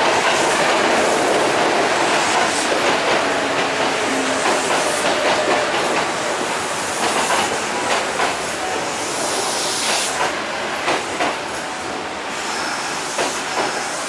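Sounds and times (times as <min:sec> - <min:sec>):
train rolling hiss: 0:00.0 - 0:14.0
train wheels clacking over track: 0:00.0 - 0:14.0.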